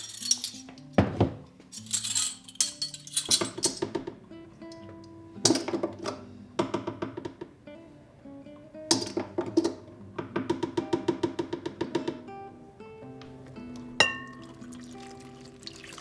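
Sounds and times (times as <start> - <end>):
soft plucked-string music: 0.2 - 16.0.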